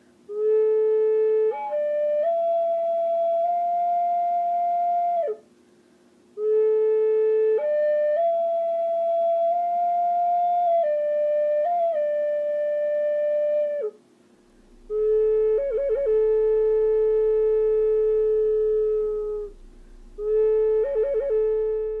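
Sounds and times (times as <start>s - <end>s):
flute playing slow melody: 0.0s - 5.4s, 6.4s - 14.0s, 14.6s - 22.0s.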